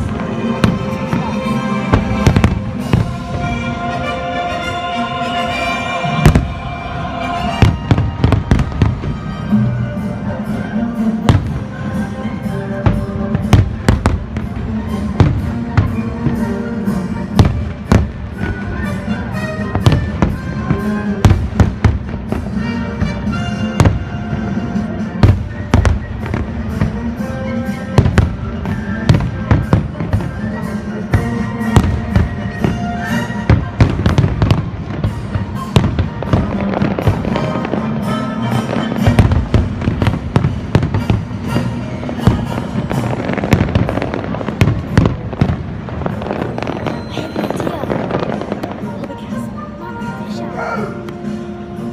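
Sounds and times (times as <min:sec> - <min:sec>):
fireworks bangs and booms: 0:00.0 - 0:49.6
music playing: 0:00.0 - 0:51.9.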